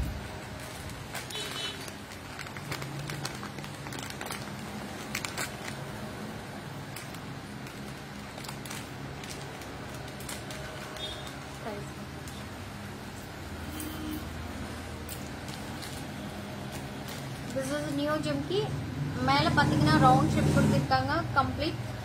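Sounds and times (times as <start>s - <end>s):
jewellery packaging clicks and rustles: 0.2s - 18.4s.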